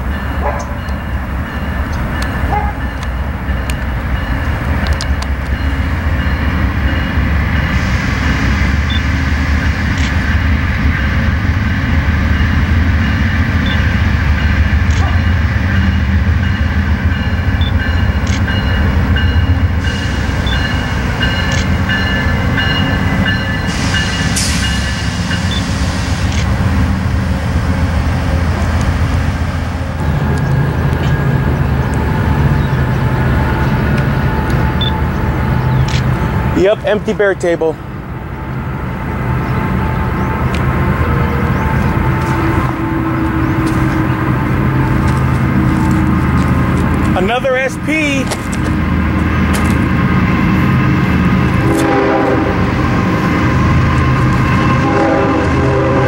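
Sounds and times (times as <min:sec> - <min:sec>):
locomotive low drone: 0:00.0 - 0:56.0
train wheels on rails: 0:00.0 - 0:56.0.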